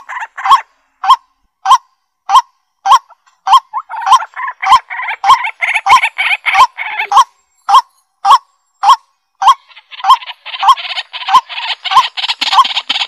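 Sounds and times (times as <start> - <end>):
honking bird calls: 0.0 - 13.0.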